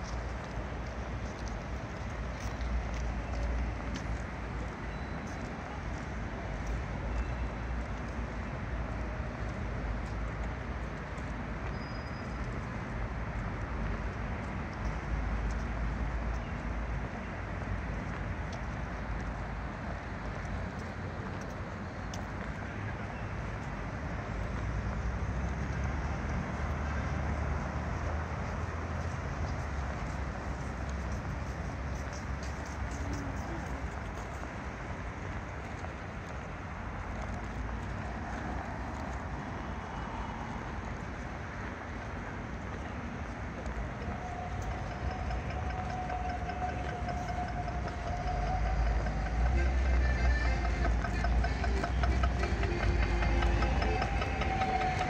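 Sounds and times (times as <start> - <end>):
road traffic hum: 0.0 - 55.0.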